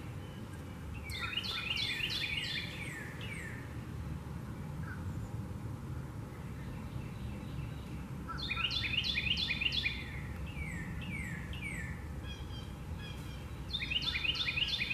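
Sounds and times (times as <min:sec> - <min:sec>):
low outdoor rumble: 0:00.0 - 0:14.9
songbird singing: 0:00.0 - 0:14.9.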